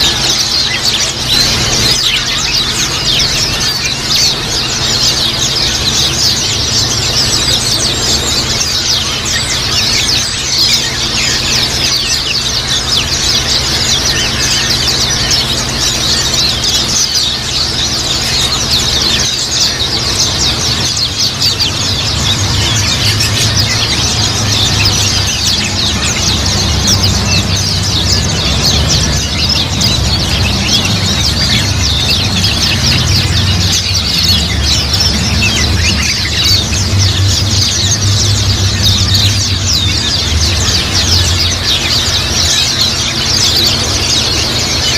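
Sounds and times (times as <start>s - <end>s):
birds chirping and twittering: 0.0s - 44.9s.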